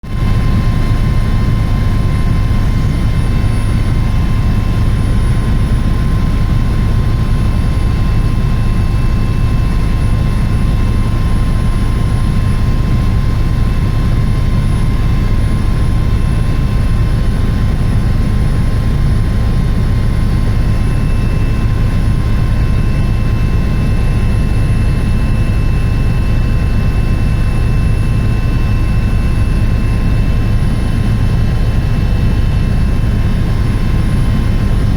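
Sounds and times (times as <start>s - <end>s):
helicopter rotor and engine drone: 0.0s - 34.9s
thin constant whine: 0.1s - 34.9s.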